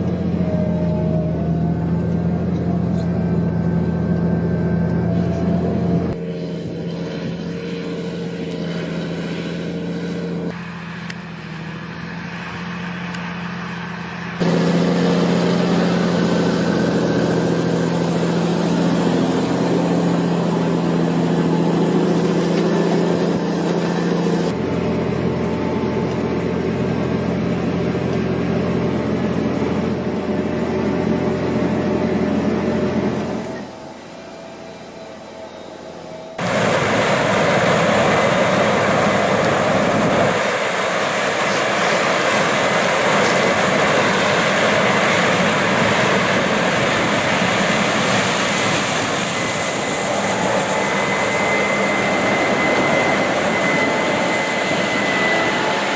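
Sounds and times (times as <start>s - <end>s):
farm machine engines running: 0.0s - 55.9s.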